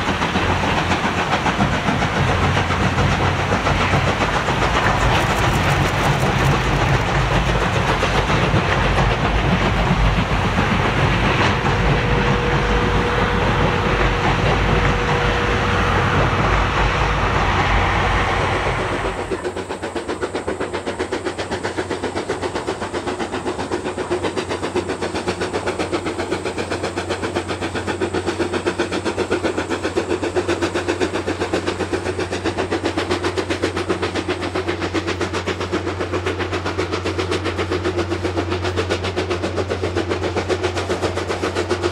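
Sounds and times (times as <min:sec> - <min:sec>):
distant train clatter: 0:00.0 - 0:41.9
train rumbling over steel bridge: 0:00.0 - 0:41.9.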